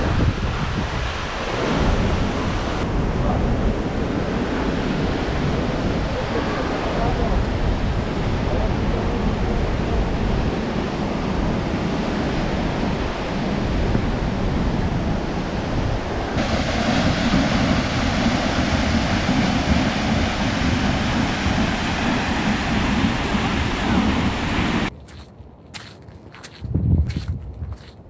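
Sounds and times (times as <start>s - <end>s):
waterfall roaring: 0.0s - 24.9s
wind buffeting microphone: 0.0s - 28.0s.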